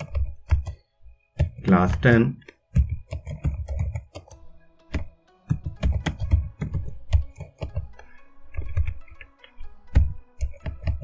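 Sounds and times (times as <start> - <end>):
faint background music: 0.0 - 11.0
keyboard typing: 0.0 - 11.0.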